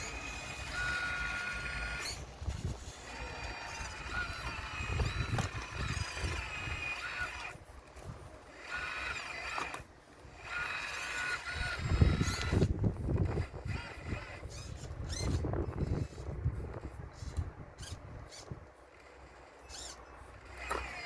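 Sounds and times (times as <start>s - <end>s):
hydraulic pump and motors whining: 0.0s - 21.0s.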